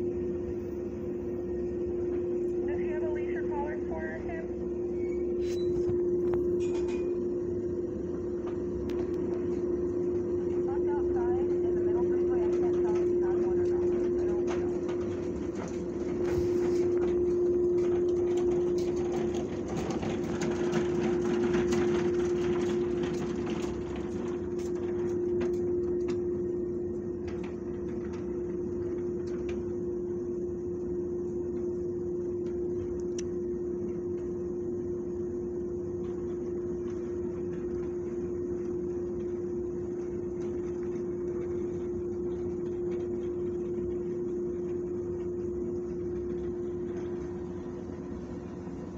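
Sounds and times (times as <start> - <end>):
machine hum: 0.0 - 48.9.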